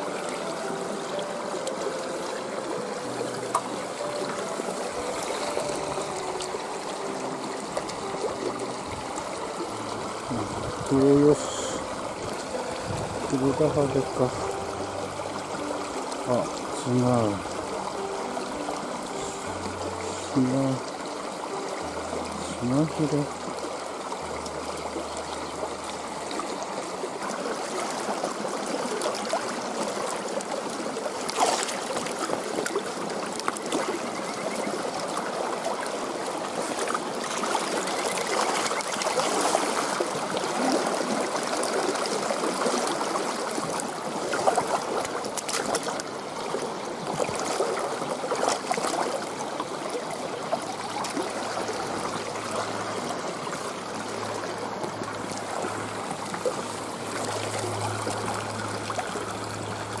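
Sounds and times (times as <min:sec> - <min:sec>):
stream water running: 0:00.0 - 1:00.0.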